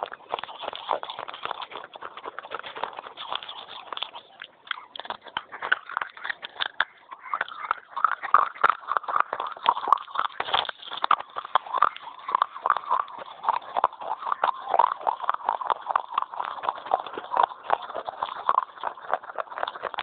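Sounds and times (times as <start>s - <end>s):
crunching and chewing clay pieces: 0.0s - 20.0s.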